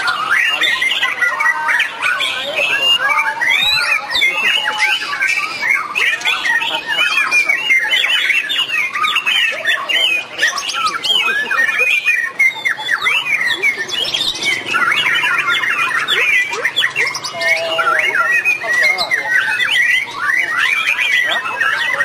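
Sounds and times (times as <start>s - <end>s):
birds singing: 0.0s - 22.0s.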